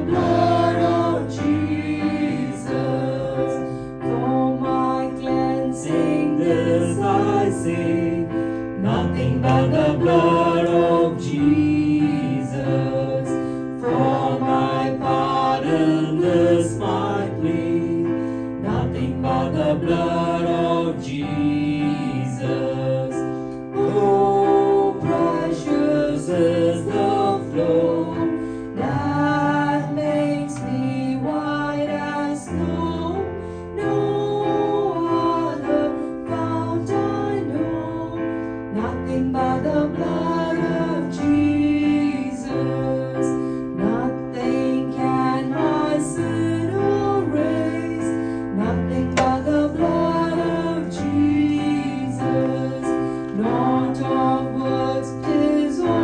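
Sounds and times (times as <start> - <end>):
keyboard accompaniment: 0.0 - 56.0
voices singing a slow hymn: 0.0 - 56.0.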